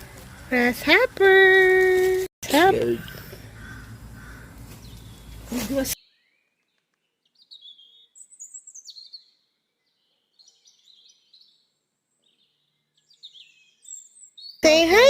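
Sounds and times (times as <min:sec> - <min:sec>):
birds chirping faintly: 0:02.5 - 0:15.0.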